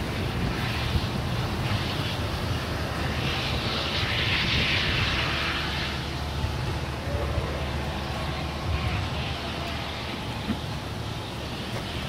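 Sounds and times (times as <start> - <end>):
diesel locomotive rumble: 0.0 - 12.0
wheels rushing on rails: 0.0 - 12.0.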